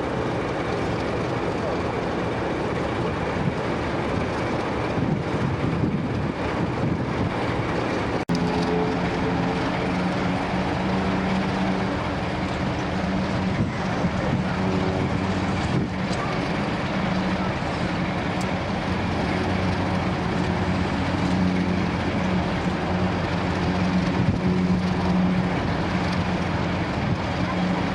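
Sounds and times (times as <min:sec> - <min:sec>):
diesel locomotive engine drone: 0:00.0 - 0:27.9.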